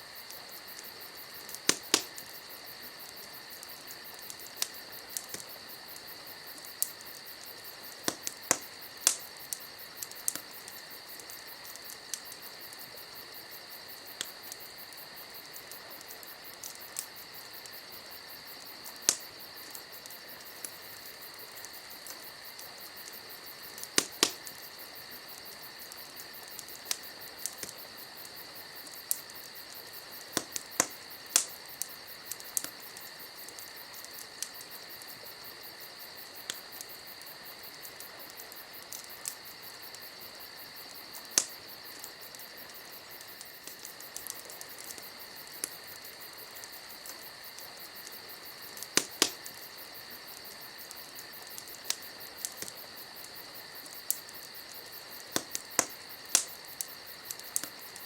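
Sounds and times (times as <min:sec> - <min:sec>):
campfire crackling: 0:00.0 - 0:58.0
crickets chirring: 0:00.0 - 0:58.0.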